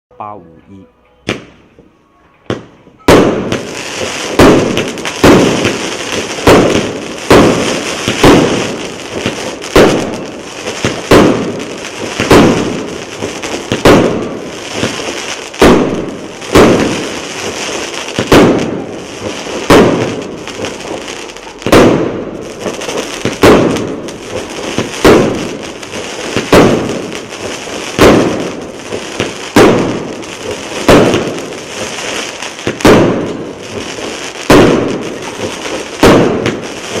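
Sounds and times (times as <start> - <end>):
fireworks shots firing: 1.3 - 1.7, 2.5 - 37.0
crackling hiss of bursts: 3.5 - 37.0.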